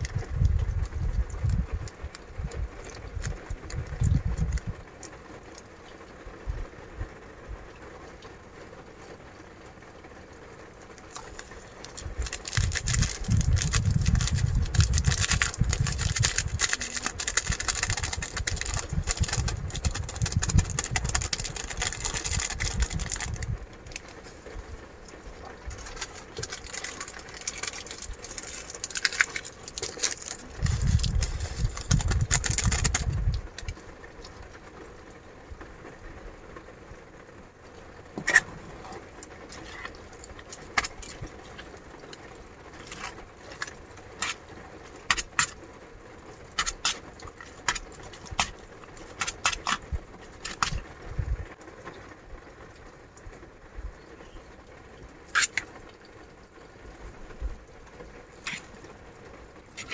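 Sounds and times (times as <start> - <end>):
wind gusts rumbling: 0.0 - 8.0, 10.5 - 51.6
heavy rain: 0.0 - 59.9.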